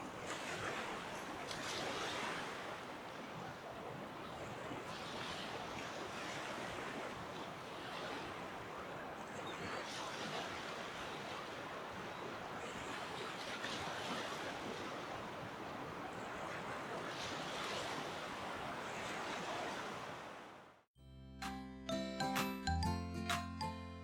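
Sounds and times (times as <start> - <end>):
ocean surf washing onto beach: 0.0 - 20.7.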